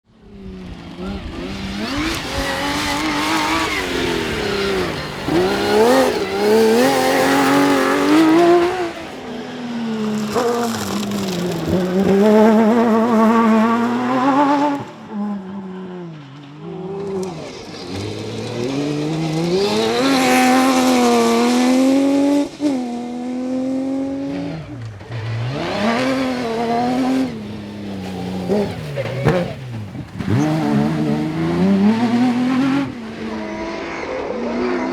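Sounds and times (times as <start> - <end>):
rally car engines revving: 0.1 - 34.9.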